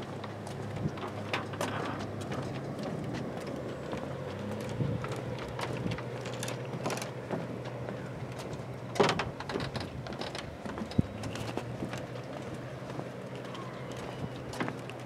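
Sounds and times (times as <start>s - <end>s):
footsteps on wooden planks: 0.0s - 15.0s.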